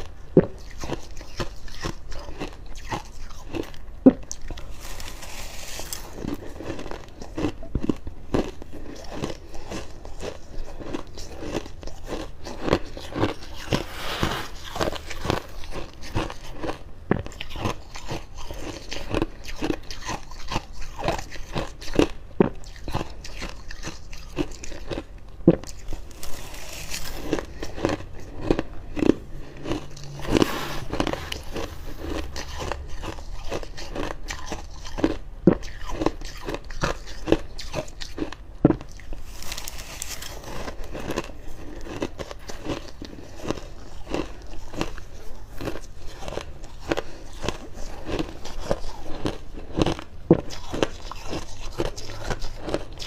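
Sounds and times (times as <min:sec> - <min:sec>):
chewing: 0:00.0 - 0:53.0.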